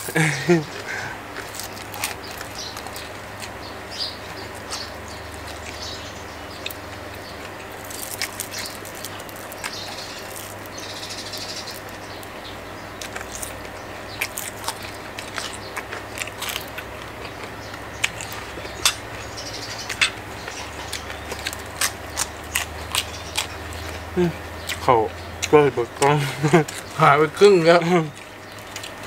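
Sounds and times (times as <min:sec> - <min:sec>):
chewing and crunching food: 0:00.0 - 0:29.0.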